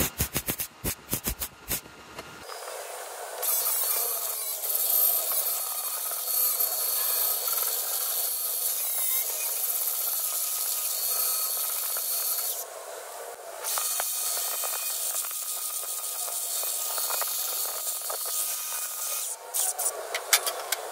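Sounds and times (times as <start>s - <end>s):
angle grinder grinding steel: 2.4s - 20.9s.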